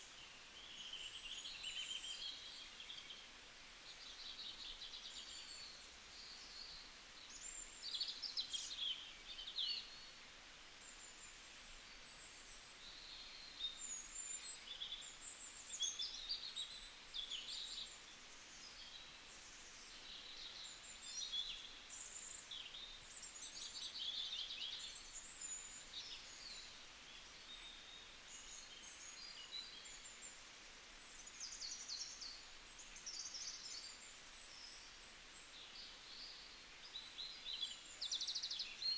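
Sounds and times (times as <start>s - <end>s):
small birds chirping: 0.0s - 10.2s, 10.8s - 38.9s
faint background hiss: 0.0s - 38.9s.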